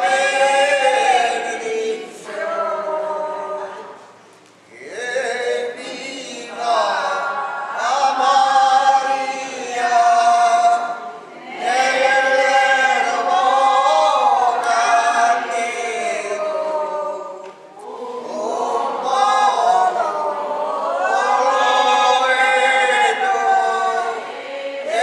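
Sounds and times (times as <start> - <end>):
man and women singing a hymn: 0.0 - 25.0.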